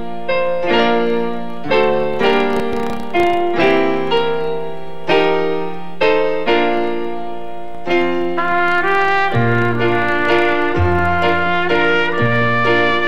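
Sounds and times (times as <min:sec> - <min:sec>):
slow piano-like keyboard chords: 0:00.0 - 0:13.0.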